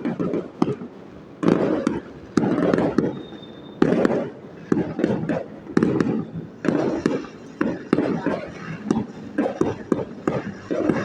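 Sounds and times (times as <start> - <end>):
fireworks bangs with crackling: 0.0 - 11.0.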